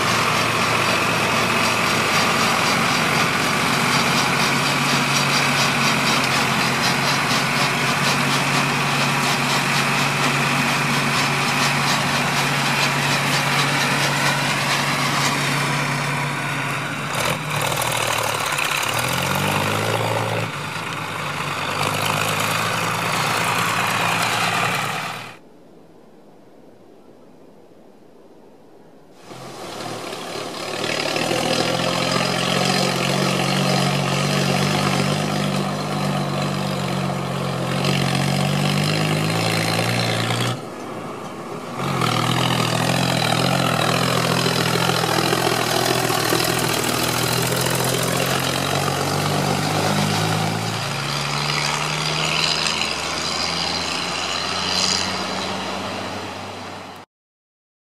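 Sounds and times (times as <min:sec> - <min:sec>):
tractor diesel engine running: 0:00.0 - 0:25.4, 0:29.2 - 0:57.0.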